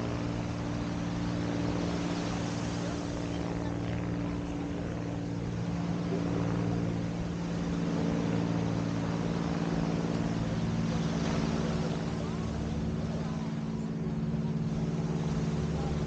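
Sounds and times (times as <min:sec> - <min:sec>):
steady engine drone: 0:00.0 - 0:16.0.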